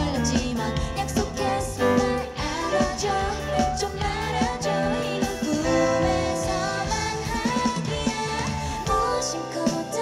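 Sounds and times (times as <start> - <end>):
steady drums: 0.0 - 10.0
woman singing: 0.0 - 10.0.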